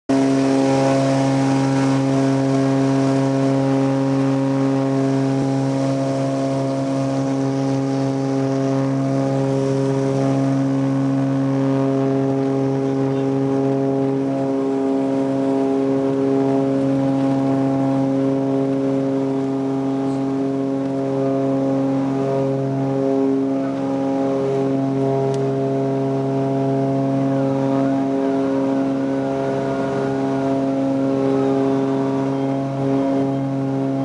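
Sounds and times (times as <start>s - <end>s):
airplane engines droning: 0.1s - 34.0s.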